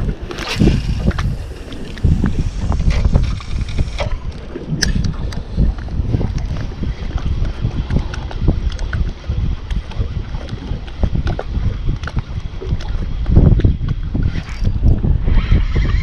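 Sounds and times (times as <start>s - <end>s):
water lapping against boat: 0.0s - 16.0s
wind buffeting microphone: 0.0s - 16.0s.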